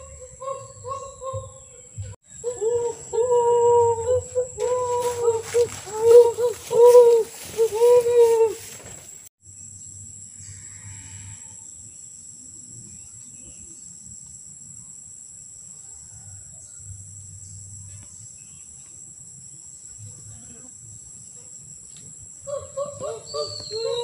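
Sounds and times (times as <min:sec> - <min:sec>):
forest insects chorus: 0:00.0 - 0:24.0.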